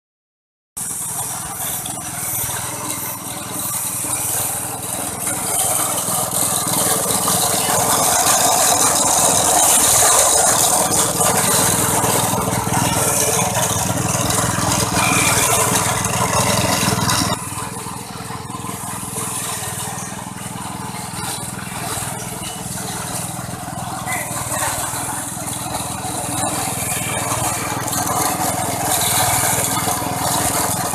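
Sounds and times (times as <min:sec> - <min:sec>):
coconut grating machine humming: 0:00.8 - 0:30.9.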